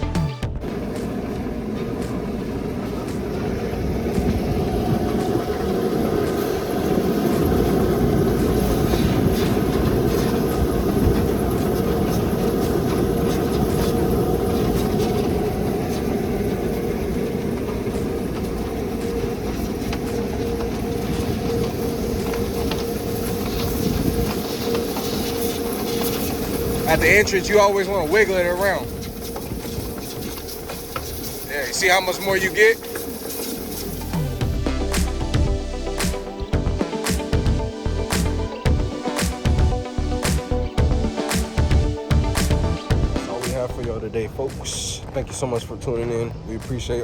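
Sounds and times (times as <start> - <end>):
vent cleaning machine rumbling: 0.6 - 47.0.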